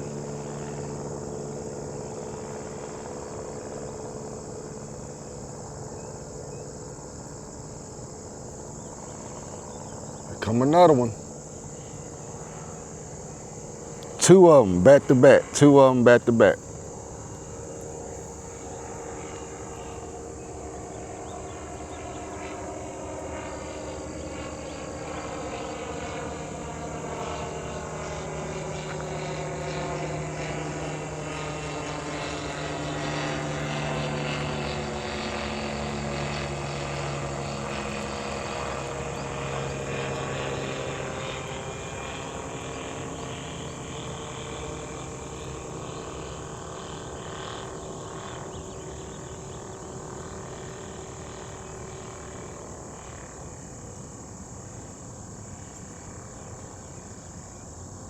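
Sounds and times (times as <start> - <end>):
airplane flying past: 0.0 - 58.0.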